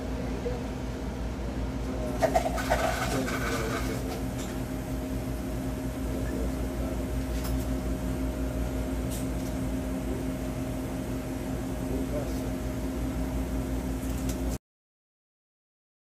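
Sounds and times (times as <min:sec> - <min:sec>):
steady mechanical hum: 0:00.0 - 0:14.6.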